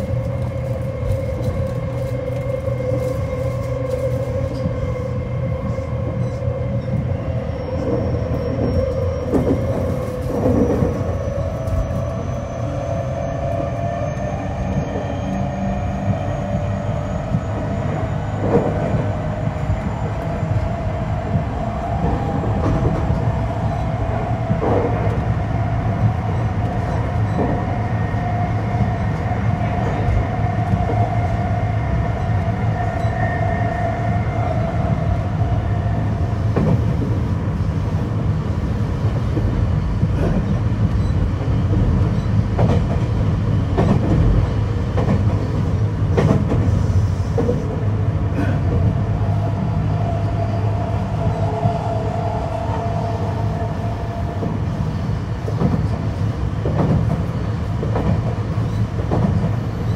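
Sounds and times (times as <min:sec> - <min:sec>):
wheel and rail rumble: 0:00.0 - 0:59.9.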